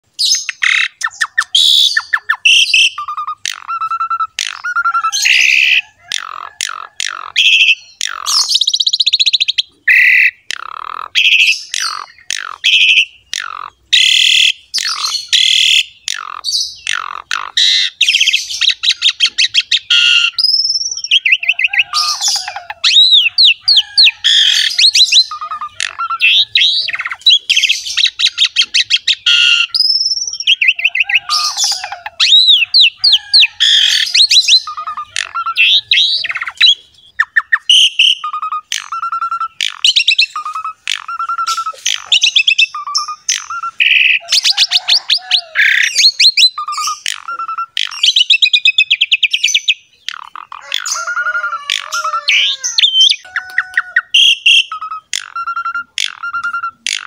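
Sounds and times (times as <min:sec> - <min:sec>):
starling singing: 0:00.0 - 0:57.0.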